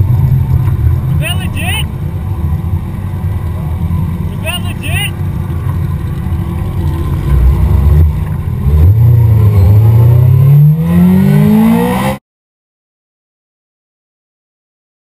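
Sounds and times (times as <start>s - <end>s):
car engine accelerating: 0.0s - 12.2s.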